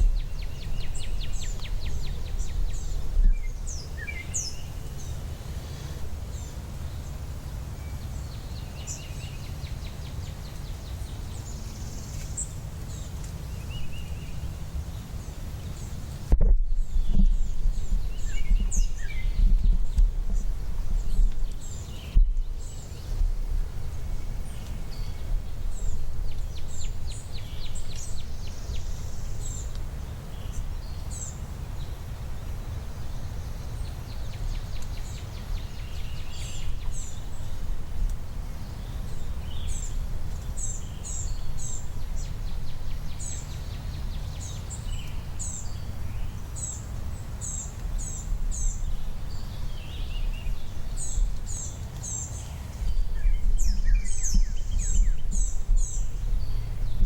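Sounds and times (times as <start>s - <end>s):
songbirds chirping: 0.0s - 57.0s
wind rumble on microphone: 0.0s - 57.0s.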